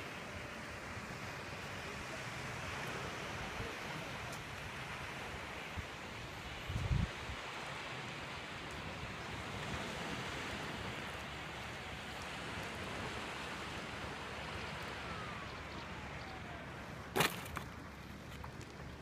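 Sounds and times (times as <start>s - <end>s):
wind and rustle: 0.0s - 19.0s.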